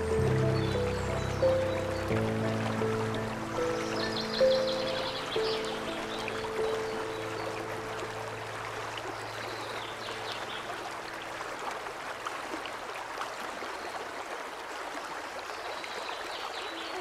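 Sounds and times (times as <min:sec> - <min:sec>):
stream rushing over stones: 0:00.0 - 0:17.0.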